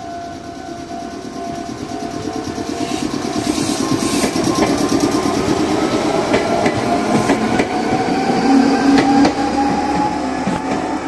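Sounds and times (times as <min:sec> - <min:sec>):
train motors whining: 0:00.0 - 0:11.0
train wheels clacking: 0:00.0 - 0:11.0.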